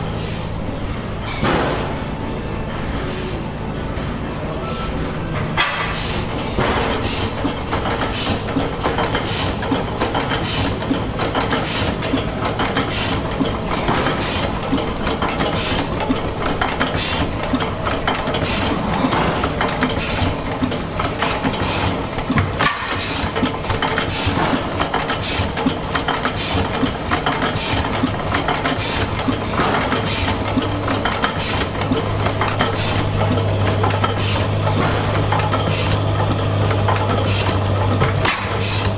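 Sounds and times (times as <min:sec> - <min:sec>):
stationary engines popping: 0:00.6 - 0:38.9.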